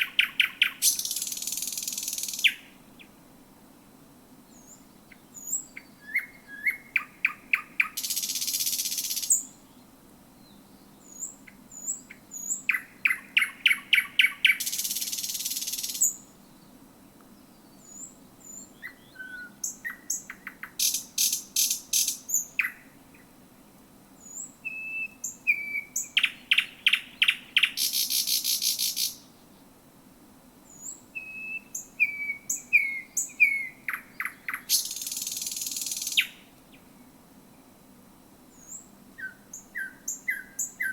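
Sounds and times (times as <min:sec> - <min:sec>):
nightingale singing: 0:00.0 - 0:03.2, 0:04.5 - 0:16.8, 0:17.4 - 0:23.3, 0:24.2 - 0:29.6, 0:30.6 - 0:37.7, 0:38.5 - 0:40.9.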